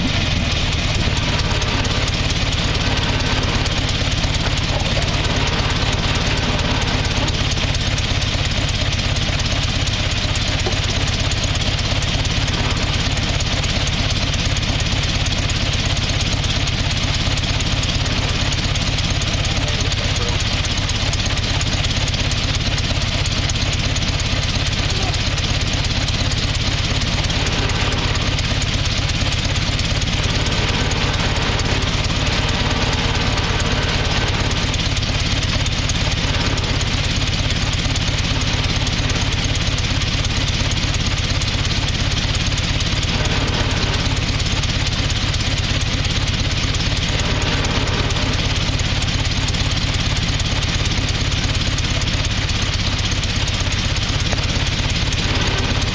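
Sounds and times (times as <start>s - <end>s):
car engine idling: 0.0s - 55.9s.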